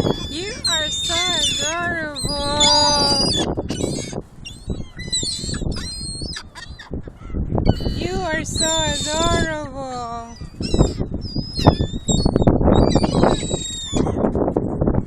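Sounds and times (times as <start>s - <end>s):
gulls squawking: 0.0s - 9.5s, 10.4s - 14.2s.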